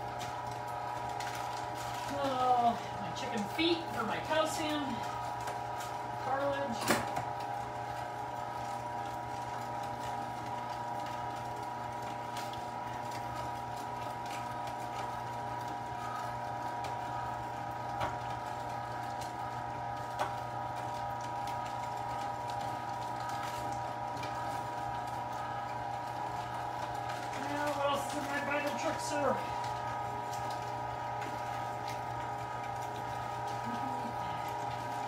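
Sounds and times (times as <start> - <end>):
electric meat grinder humming: 0.0 - 35.0.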